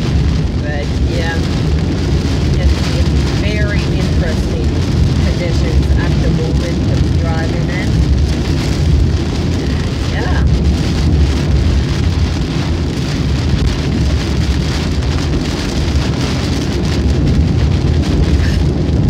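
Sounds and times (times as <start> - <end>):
heavy rain on car windshield: 0.0 - 19.0
tyres rumbling on wet road: 0.0 - 19.0.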